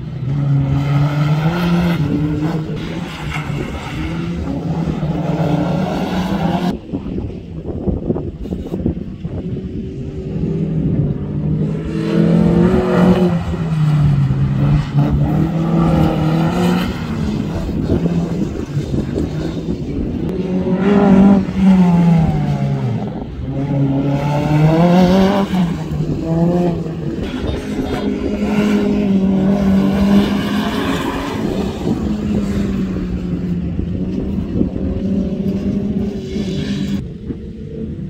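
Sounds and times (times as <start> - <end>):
car engine accelerating: 0.0 - 7.4, 8.3 - 38.0.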